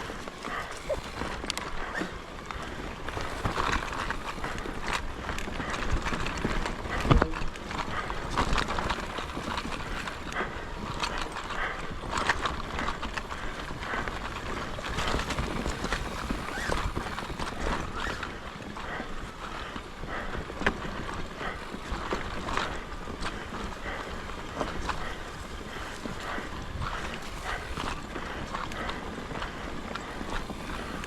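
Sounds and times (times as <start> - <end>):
bike frame rattling: 0.0 - 31.0
bike tyres crunching on dirt: 0.0 - 31.0.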